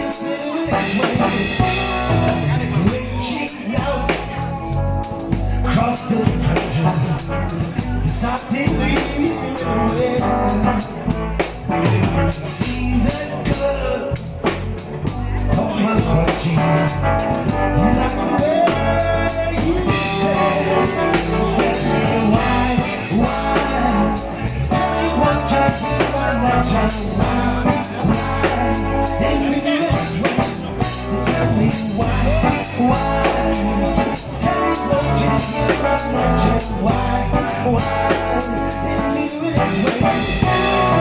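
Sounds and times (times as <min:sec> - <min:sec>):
blues band playing: 0:00.0 - 0:41.0
sung melody: 0:00.0 - 0:41.0.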